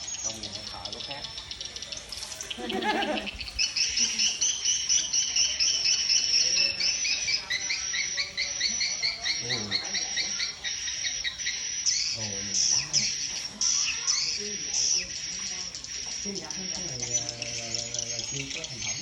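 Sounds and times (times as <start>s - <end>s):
bird call through speaker: 0.1s - 19.0s.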